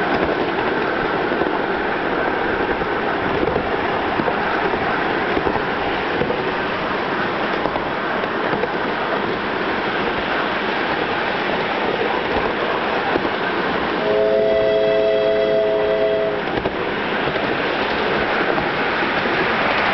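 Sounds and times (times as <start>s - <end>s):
steam locomotive running on rails: 0.0s - 19.9s.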